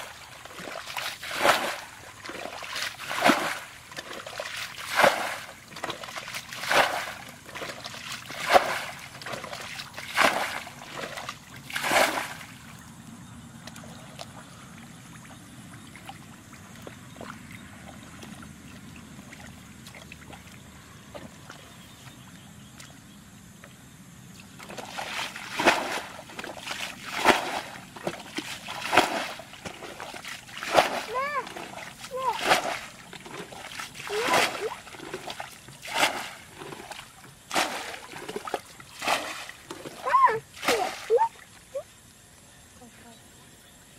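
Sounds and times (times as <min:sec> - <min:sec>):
muddy water splashing: 0:00.0 - 0:42.1
faint water trickling: 0:00.0 - 0:43.9.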